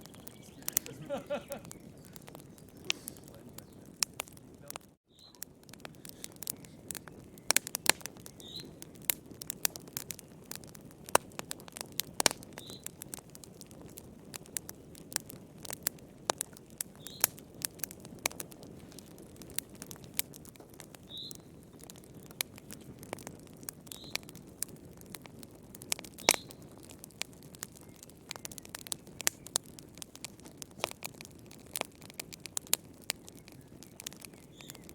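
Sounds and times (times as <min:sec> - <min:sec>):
low rush of flame: 0:00.0 - 0:34.9
wood fire crackling and popping: 0:00.0 - 0:34.9.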